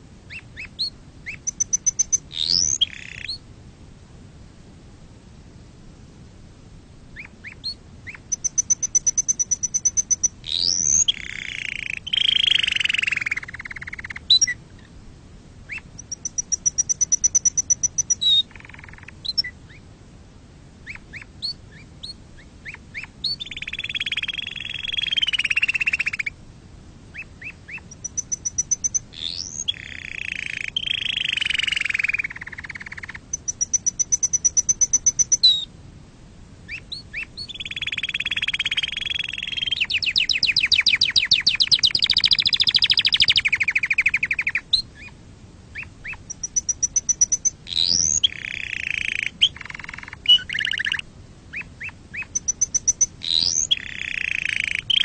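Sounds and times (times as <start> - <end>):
canary singing trills: 0.0 - 3.4, 7.1 - 14.9, 15.7 - 19.8, 20.8 - 26.4, 27.1 - 35.7, 36.7 - 55.0.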